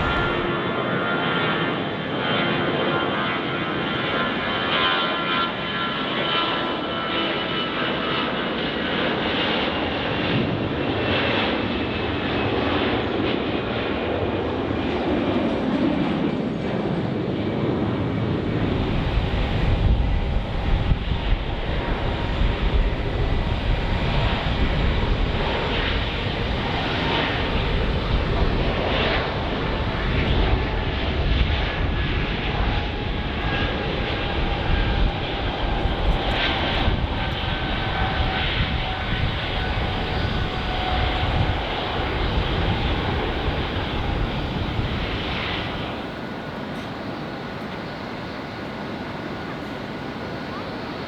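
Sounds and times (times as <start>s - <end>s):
jet engines rumbling and whining: 0.0s - 51.0s.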